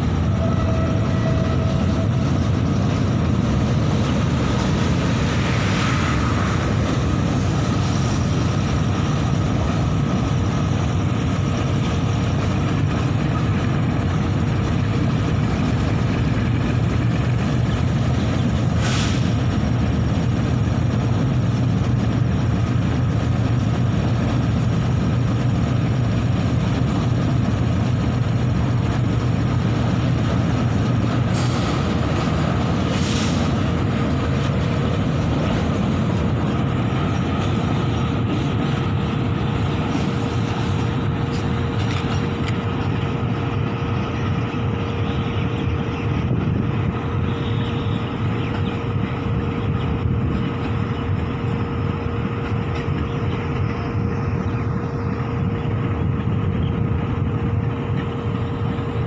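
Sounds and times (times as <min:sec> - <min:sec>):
freight wagons rumbling on rails: 0:00.0 - 0:59.0.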